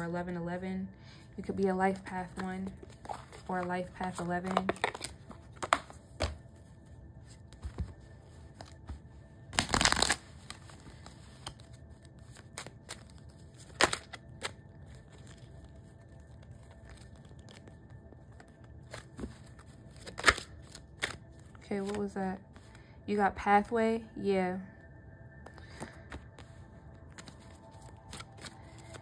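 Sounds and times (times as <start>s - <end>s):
cards shuffling: 1.9s - 22.7s, 25.5s - 29.0s.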